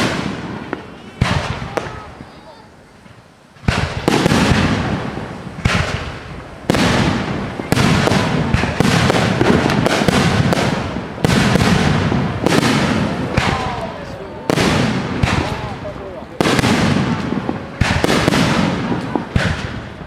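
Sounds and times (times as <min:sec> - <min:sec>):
fireworks bangs: 0:00.0 - 0:20.0
fireworks crackle and rumble: 0:00.0 - 0:20.0.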